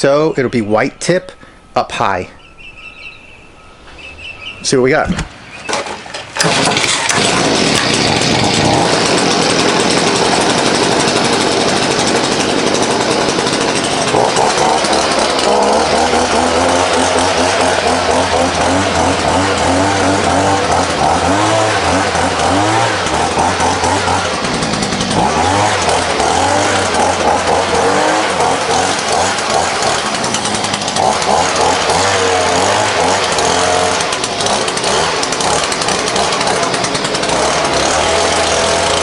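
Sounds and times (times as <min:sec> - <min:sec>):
leaf blower running: 0:05.7 - 0:39.0.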